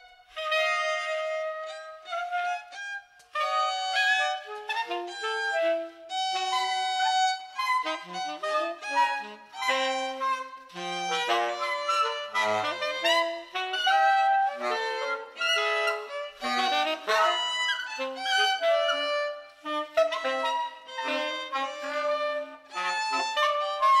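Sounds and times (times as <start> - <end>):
tenor saxophones playing free jazz: 0.0 - 24.0.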